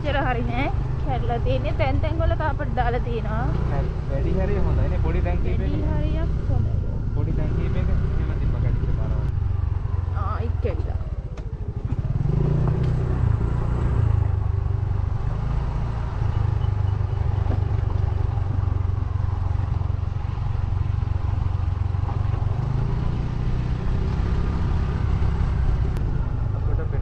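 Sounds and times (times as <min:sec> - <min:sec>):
motorcycle engine rumble: 0:00.0 - 0:27.0.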